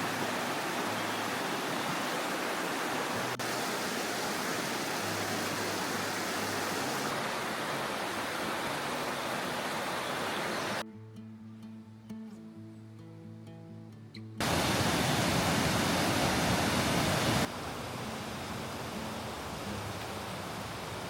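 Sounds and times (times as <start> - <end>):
water rushing: 0.0 - 10.8, 14.4 - 21.0.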